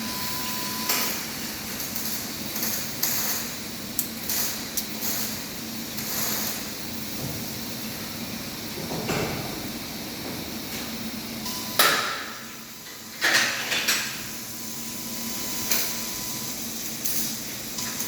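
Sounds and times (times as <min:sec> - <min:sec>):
laser cutter hum and hiss: 0:00.0 - 0:18.0.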